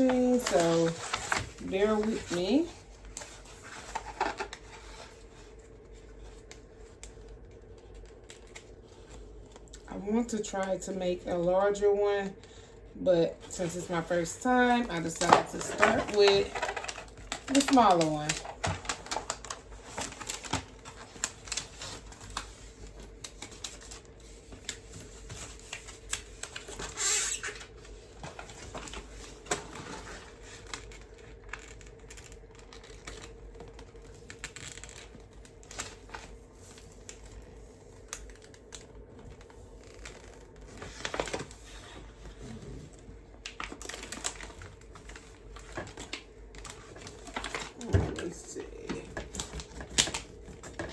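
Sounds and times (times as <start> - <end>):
paper and plastic rustling: 0.0 - 9.8, 13.3 - 50.9
faint steady hum: 0.0 - 50.9.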